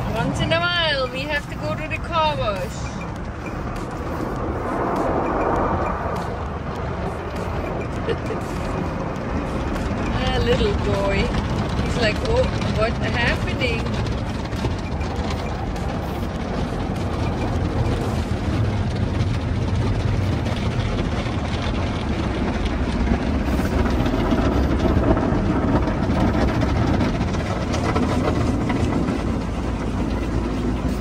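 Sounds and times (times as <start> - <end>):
car wash spraying water: 0.0 - 31.0
low machinery rumble: 0.0 - 31.0.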